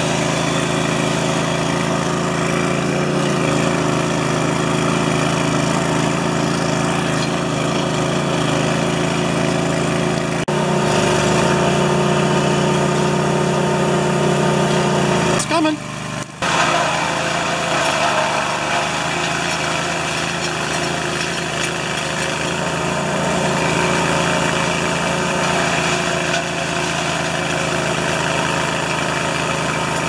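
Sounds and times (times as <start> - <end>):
gasoline engine running: 0.0 - 30.0.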